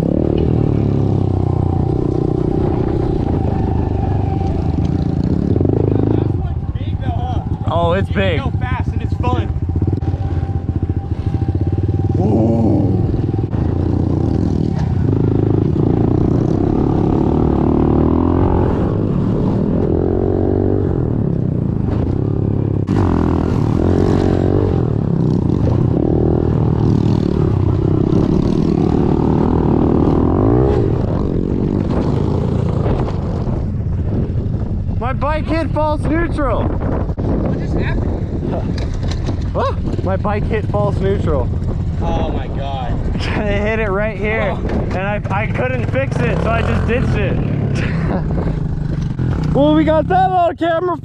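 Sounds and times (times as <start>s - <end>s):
pit bike engine revving: 0.0s - 34.4s, 36.6s - 50.6s.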